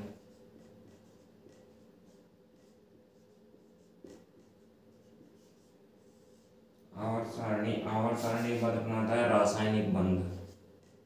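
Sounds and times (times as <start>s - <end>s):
faint steady hum: 0.0s - 11.0s
marker pen writing on whiteboard: 0.0s - 11.0s.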